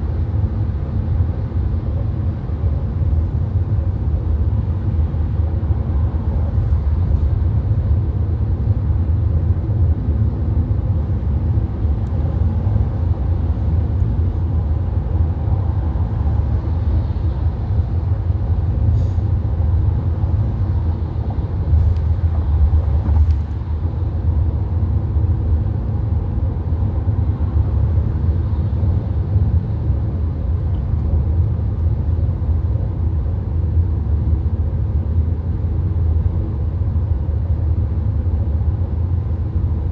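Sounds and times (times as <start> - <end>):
car interior road and engine rumble: 0.0 - 39.9.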